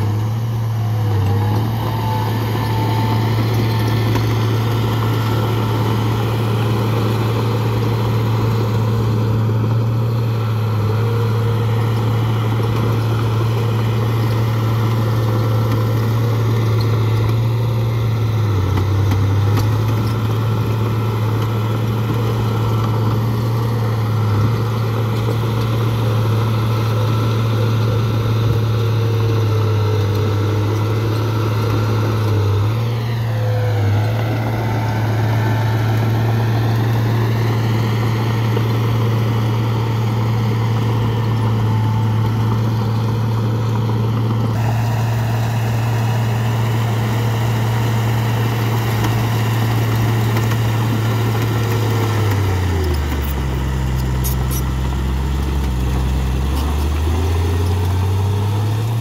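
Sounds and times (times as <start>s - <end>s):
diesel machinery engine running: 0.0s - 59.0s.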